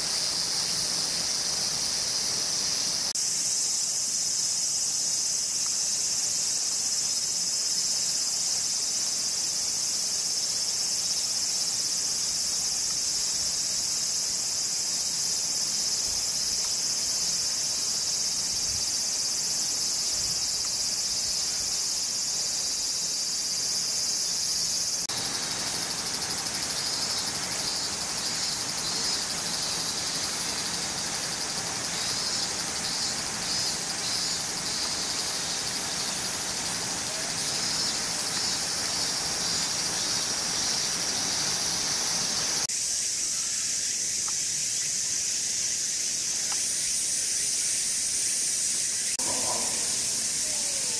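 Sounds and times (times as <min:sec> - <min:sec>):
insects chorus: 0:00.0 - 0:50.9
pulsing insect trill: 0:00.0 - 0:50.9.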